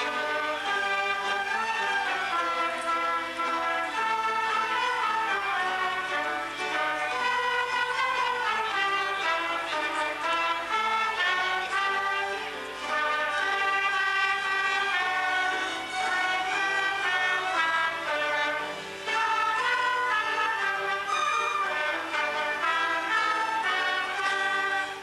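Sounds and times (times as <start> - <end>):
orchestral music with strings and brass: 0.0 - 25.0.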